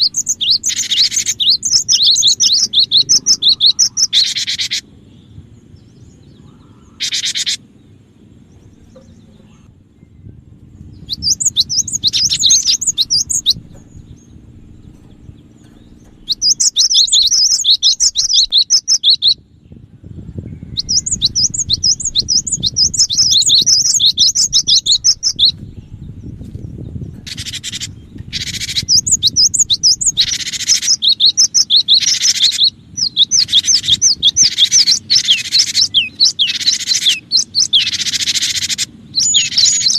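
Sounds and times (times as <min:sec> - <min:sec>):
bird harsh rasping calls: 0:00.0 - 0:05.3, 0:06.2 - 0:09.8, 0:11.0 - 0:19.4, 0:20.7 - 0:25.6, 0:27.2 - 0:39.9
faint low rumble: 0:00.0 - 0:32.0
bird chirping: 0:00.0 - 0:39.9.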